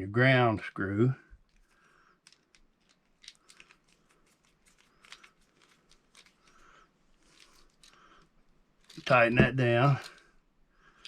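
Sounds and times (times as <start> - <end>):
faint clicks and rustles of wiring parts: 1.2 - 11.0.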